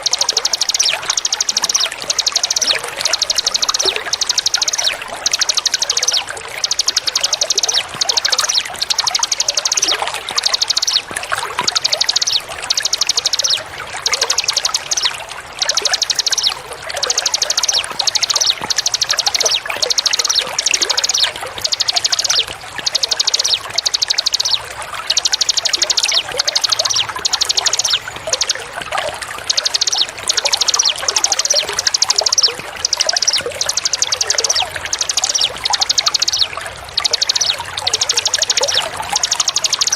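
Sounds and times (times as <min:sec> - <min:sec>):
running pouring water: 0:00.0 - 0:39.9
songbird trilling: 0:00.0 - 0:39.9.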